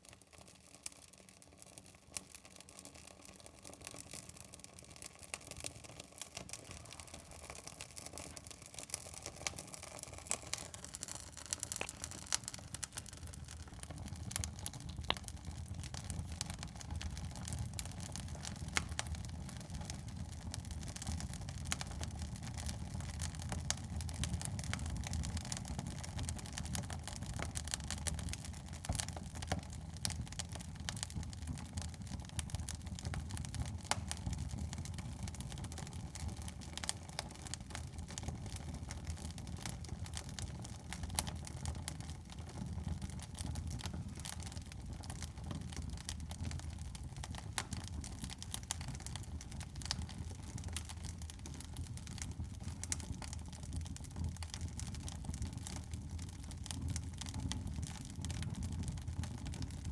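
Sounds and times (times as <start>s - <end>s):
wood fire crackling and popping: 0.0s - 59.9s
low rumble of flames: 2.1s - 59.9s.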